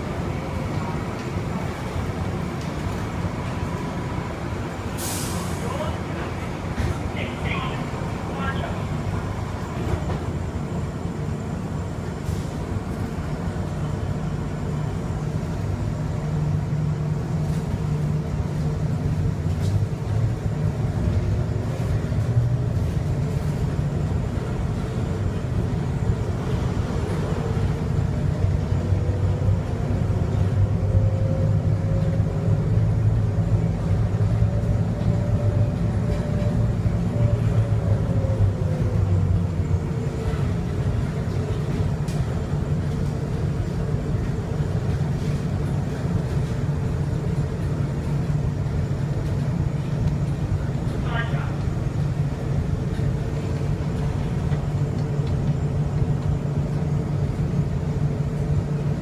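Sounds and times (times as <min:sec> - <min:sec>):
tyres rumbling on guideway: 0:00.0 - 0:59.0.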